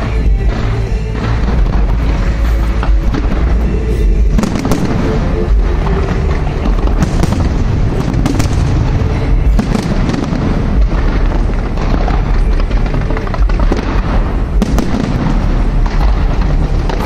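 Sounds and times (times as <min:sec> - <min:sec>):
fireworks booming and cracking: 0:00.0 - 0:17.0.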